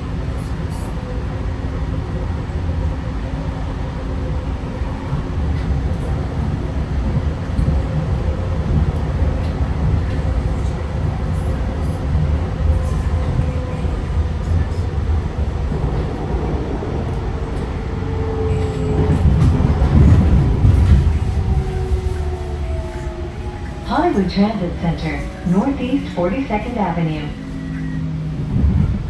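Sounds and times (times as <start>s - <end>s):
rumble of wheels and track: 0.0s - 29.0s.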